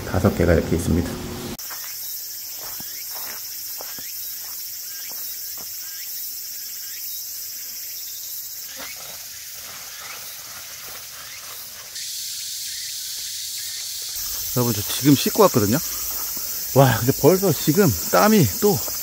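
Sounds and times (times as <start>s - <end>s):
insect chorus drone: 1.6s - 19.0s
short sharp insect calls: 1.6s - 19.0s.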